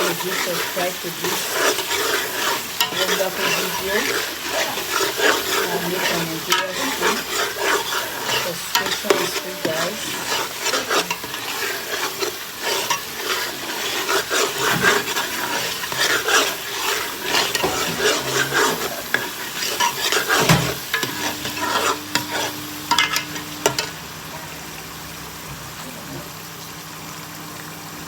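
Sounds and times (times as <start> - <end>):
spoon scraping a pot: 0.0 - 24.0
food sizzling in oil: 0.0 - 28.0.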